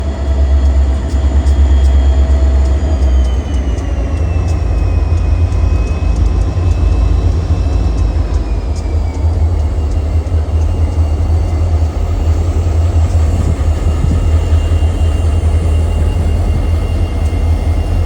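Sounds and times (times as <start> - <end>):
diesel locomotive rumbling: 0.0 - 18.0.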